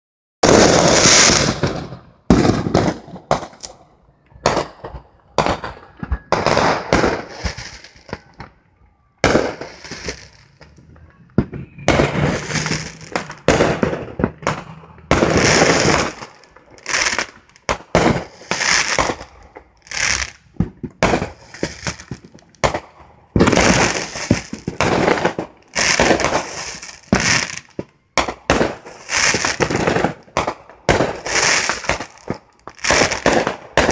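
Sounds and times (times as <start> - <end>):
fireworks bangs and crackling: 0.4 - 33.9.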